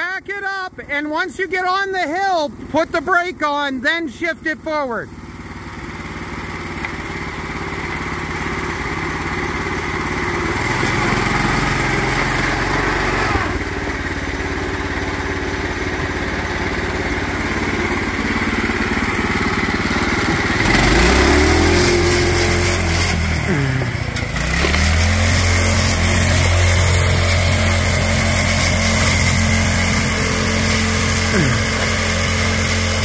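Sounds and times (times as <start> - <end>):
small gas engine revving: 5.1 - 33.0.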